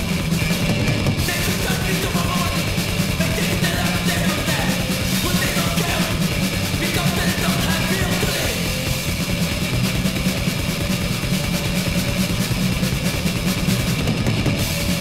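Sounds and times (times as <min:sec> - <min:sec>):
distorted electric guitars: 0:00.0 - 0:15.0
fast drumming: 0:00.0 - 0:15.0.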